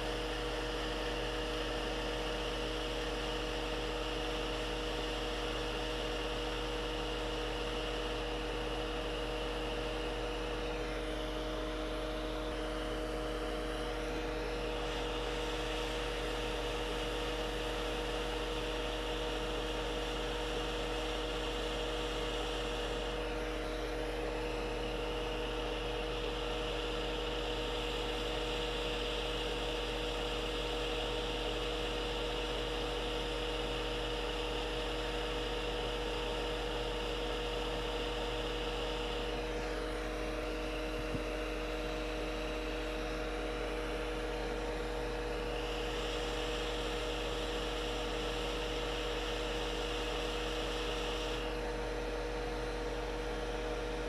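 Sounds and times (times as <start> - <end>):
electrical hum and motor whine: 0.0 - 54.0.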